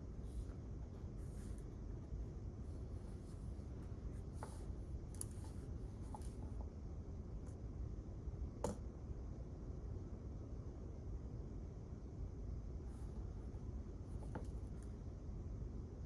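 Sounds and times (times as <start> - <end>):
low hum of room air: 0.0 - 16.0.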